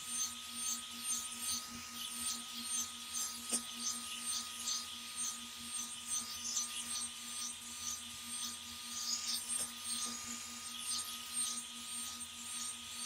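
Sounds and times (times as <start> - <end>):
hot air brush motor hum: 0.0 - 13.0.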